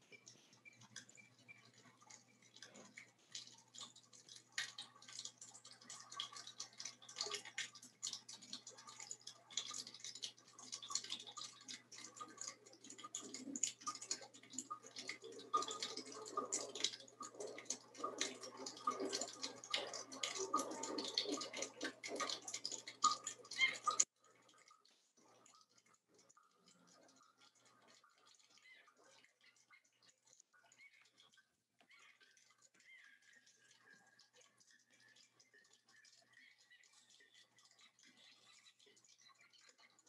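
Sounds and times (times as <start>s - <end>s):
rapid watery clicking: 0.0s - 40.0s.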